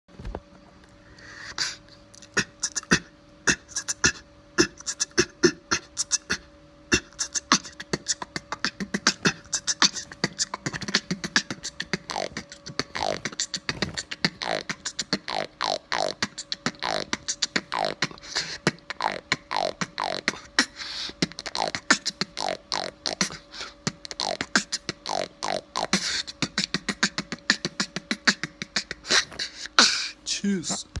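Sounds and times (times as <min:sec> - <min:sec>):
beatboxing: 0:01.6 - 0:31.0.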